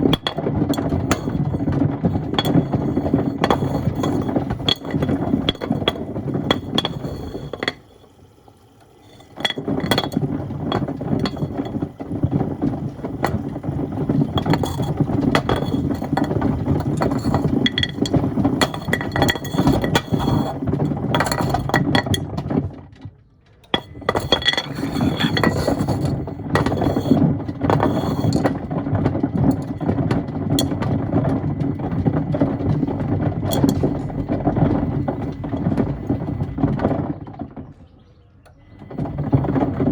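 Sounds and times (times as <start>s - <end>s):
stones clattering in washing machine drum: 0.0s - 37.8s, 38.4s - 39.9s.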